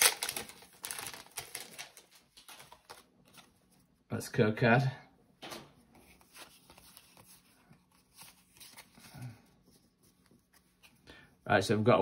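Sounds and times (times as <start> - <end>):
trading cards rustling and shuffling: 0.0 - 4.0, 5.4 - 11.1.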